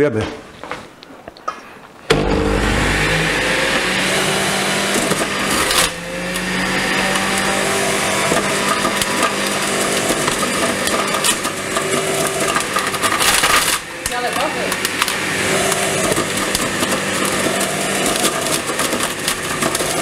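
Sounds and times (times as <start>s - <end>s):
electric juicer shredding carrots: 2.1s - 20.0s.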